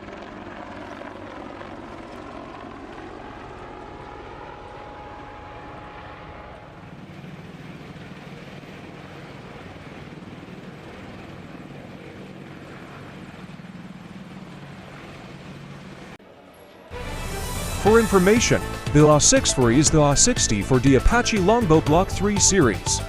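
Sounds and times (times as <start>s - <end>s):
helicopter rotor and turbine: 0.0s - 23.0s.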